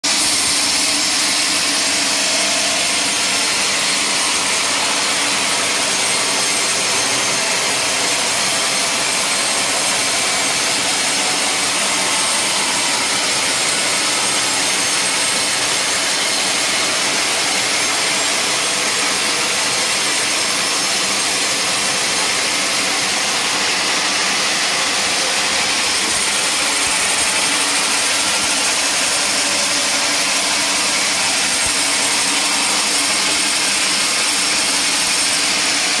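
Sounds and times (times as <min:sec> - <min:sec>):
band saw cutting wood: 0:00.0 - 0:36.0.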